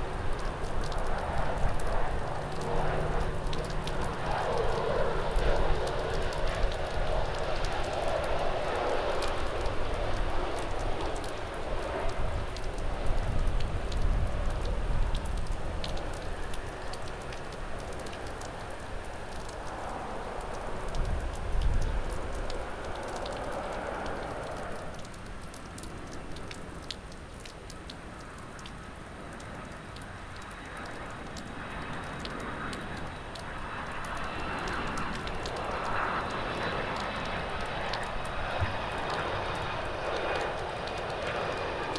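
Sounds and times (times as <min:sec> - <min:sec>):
jet engine rumble: 0:00.0 - 0:25.0, 0:30.6 - 0:41.9
faint jet engine whine: 0:00.0 - 0:41.9
raindrops hitting microphone: 0:00.0 - 0:41.9.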